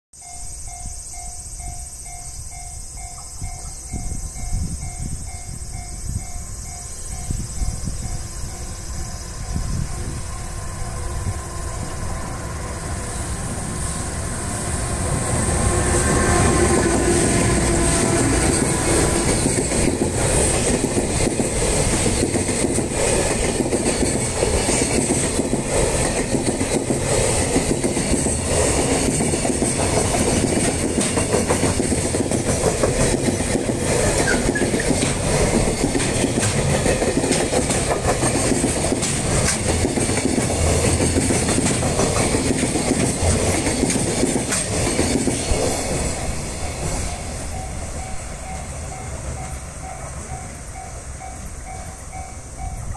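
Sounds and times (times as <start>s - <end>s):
clickety-clack of wheels on rails: 0.2s - 52.9s
train heavy rumble: 0.2s - 52.9s.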